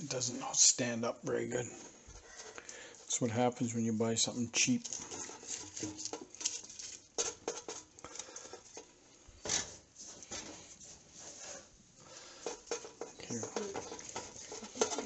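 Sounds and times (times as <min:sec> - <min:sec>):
basting brush scraping and tapping: 0:01.4 - 0:15.0.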